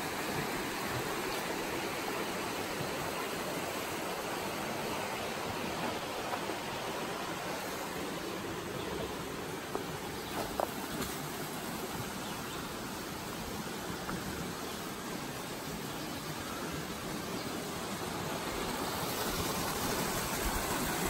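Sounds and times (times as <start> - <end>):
creek rushing: 0.0 - 21.0.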